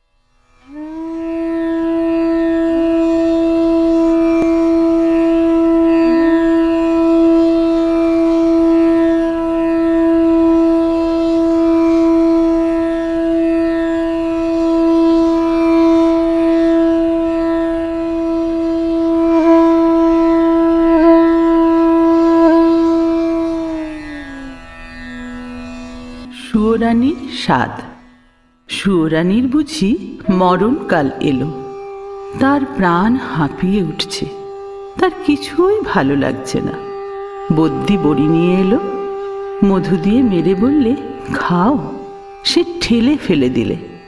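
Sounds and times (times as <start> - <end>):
woodwind holding long note: 0.6 - 24.8, 30.2 - 44.0.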